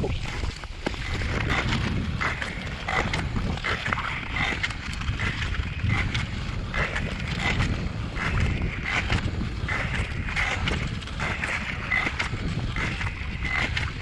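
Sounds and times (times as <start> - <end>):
ice skates scraping on ice: 0.0 - 14.0
low rumble: 0.0 - 14.0.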